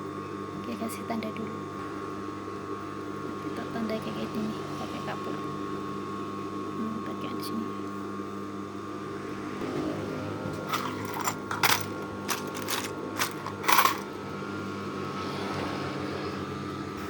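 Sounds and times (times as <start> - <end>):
steady electrical hum: 0.0 - 15.2.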